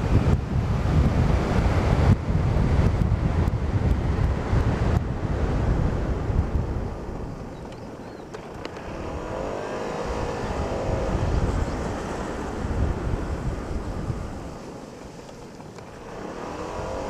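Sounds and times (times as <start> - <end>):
scooter engine running: 0.0 - 17.0
wind rumble on microphone: 0.0 - 17.0.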